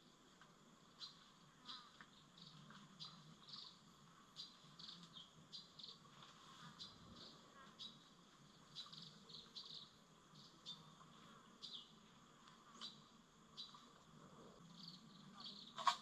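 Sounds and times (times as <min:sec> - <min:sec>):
forest background hum: 0:00.0 - 0:16.0.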